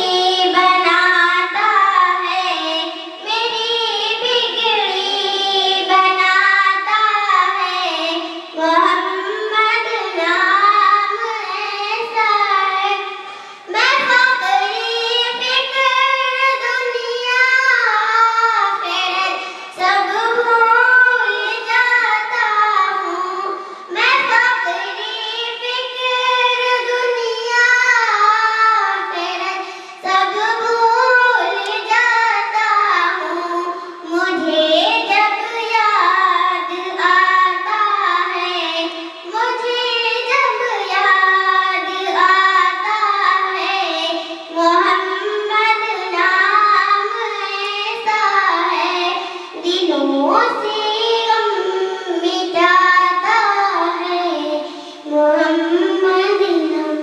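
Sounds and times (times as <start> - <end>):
girl singing into microphone: 0.0 - 57.0.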